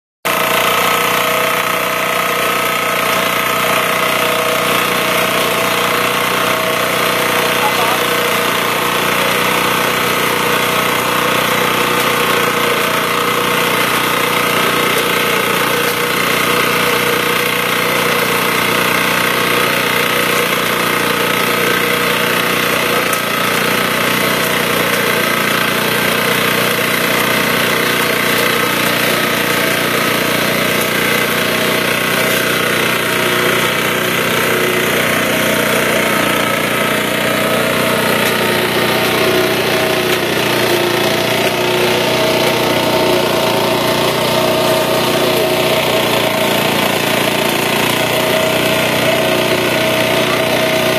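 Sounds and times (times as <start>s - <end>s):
small engine running steadily: 0.2s - 50.9s.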